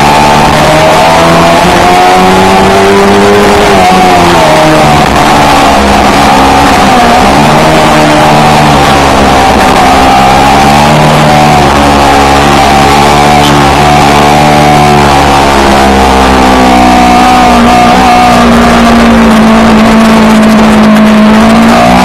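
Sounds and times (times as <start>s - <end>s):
motorcycle engine running loud: 0.0s - 22.0s.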